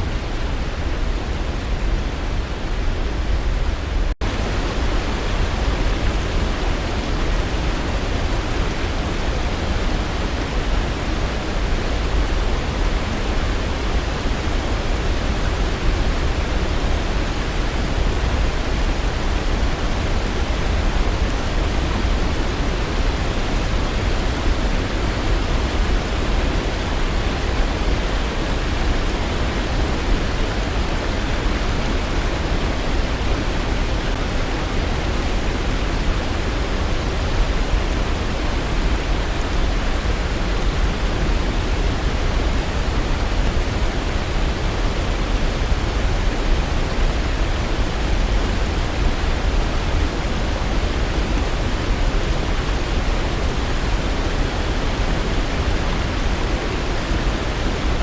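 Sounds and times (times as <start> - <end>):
waterfall rushing: 4.2 - 58.0.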